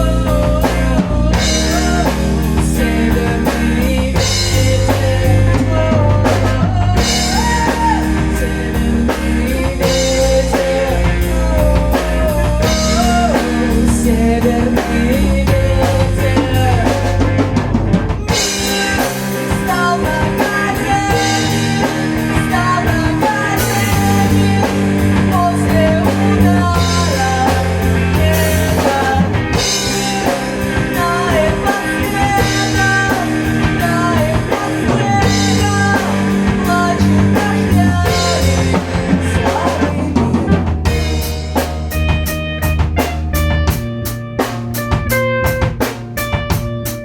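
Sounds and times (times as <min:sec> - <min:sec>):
rock band playing: 0:00.0 - 0:47.0.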